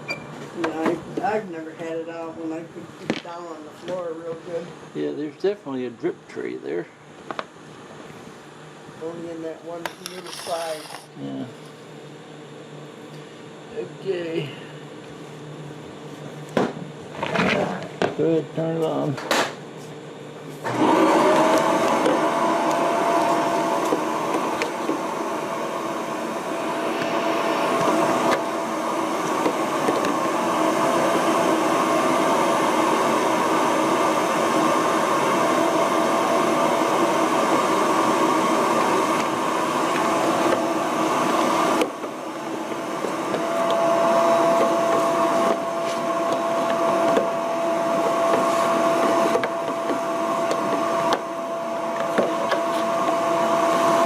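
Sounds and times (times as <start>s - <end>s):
vacuum cleaner running: 0.0s - 6.8s, 7.9s - 54.0s.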